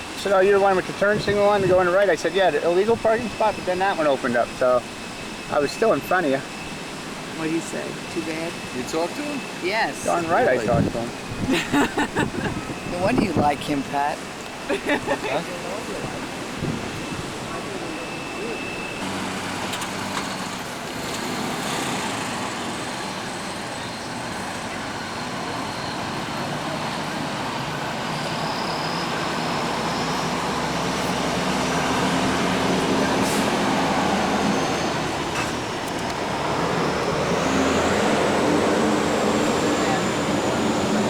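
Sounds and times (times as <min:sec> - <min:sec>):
road traffic noise: 0:00.0 - 0:41.0.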